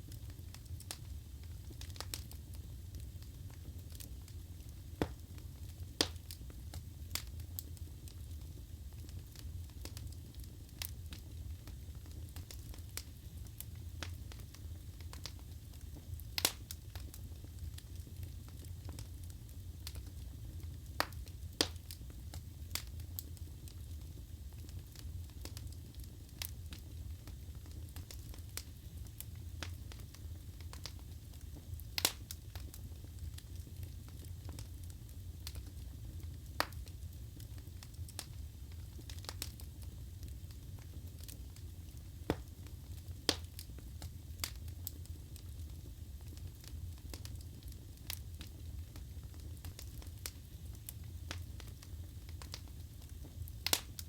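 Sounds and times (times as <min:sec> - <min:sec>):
burning logs crackling and popping: 0:00.0 - 0:54.0
fire flames rumbling: 0:00.0 - 0:54.0.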